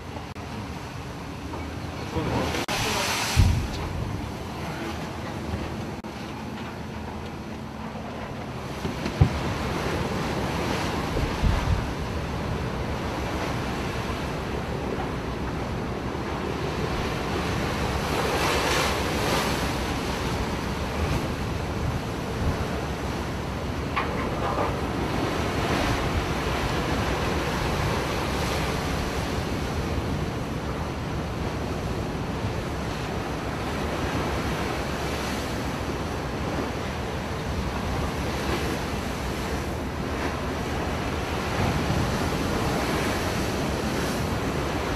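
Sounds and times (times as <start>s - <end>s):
wind buffeting microphone: 1.0s - 6.1s, 8.1s - 44.9s.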